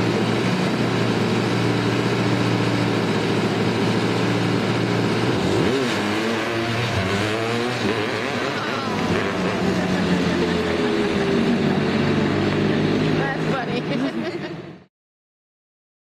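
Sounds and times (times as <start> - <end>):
small gasoline engine revving: 0.0 - 14.2.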